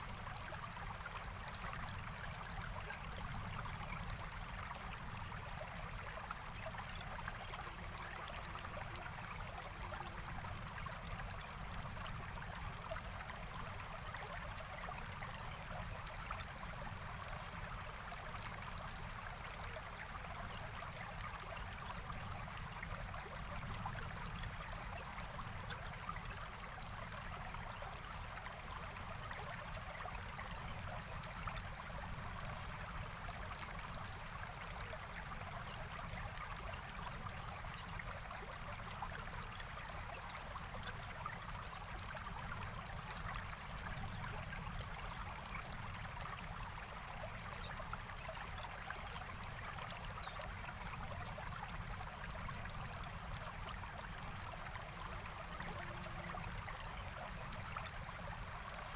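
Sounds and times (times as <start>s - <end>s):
stream flowing and trickling: 0.0s - 58.9s.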